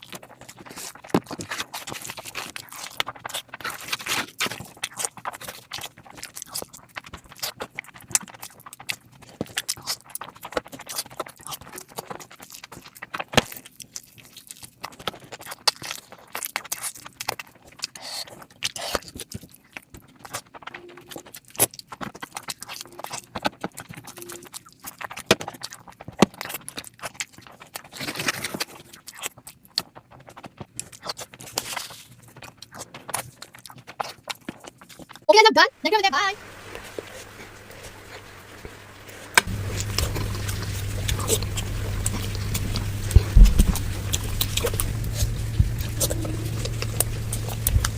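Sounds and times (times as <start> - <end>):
person chewing food: 0.0 - 35.3, 36.5 - 47.9.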